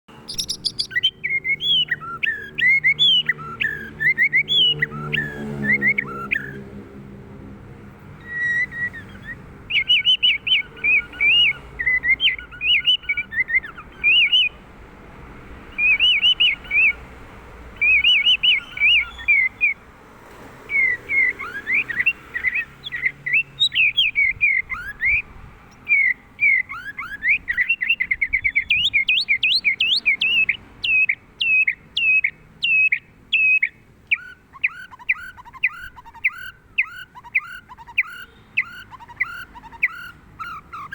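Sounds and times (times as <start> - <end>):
bird singing chirps and whistles: 0.1 - 6.6, 8.2 - 14.6, 15.7 - 17.0, 17.8 - 19.8, 20.7 - 40.9.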